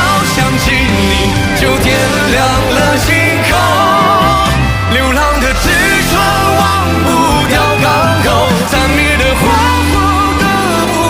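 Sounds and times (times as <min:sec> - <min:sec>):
pop song with band: 0:00.0 - 0:11.0.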